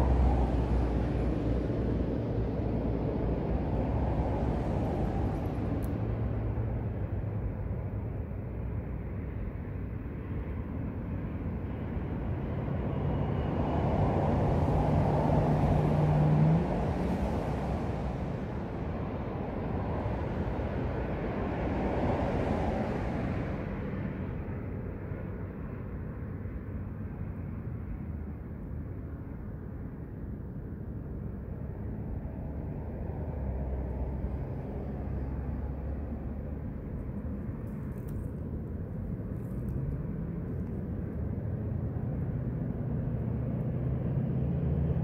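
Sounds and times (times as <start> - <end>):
engine hum: 0.0 - 45.0
road vehicle rumble: 0.0 - 45.0.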